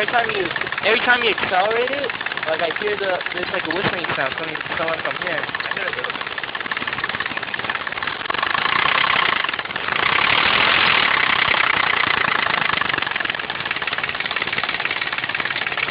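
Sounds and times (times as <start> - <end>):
engine knocking: 0.0 - 15.9
engine revving: 0.0 - 15.9.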